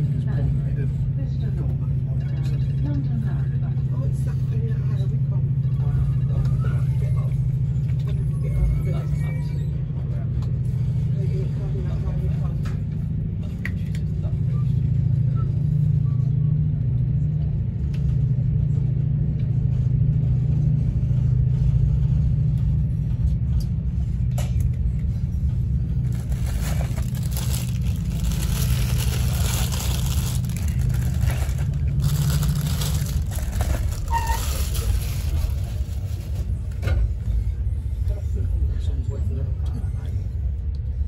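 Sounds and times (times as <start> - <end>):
train low drone: 0.0 - 41.0.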